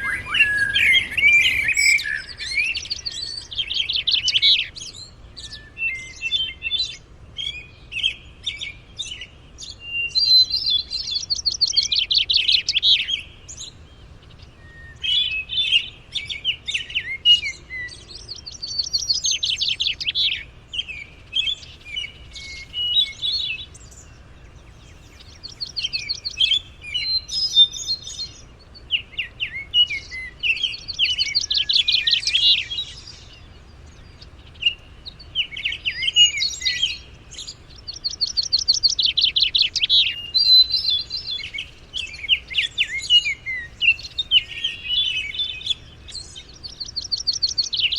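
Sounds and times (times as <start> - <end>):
songbirds trilling: 0.0 - 47.9.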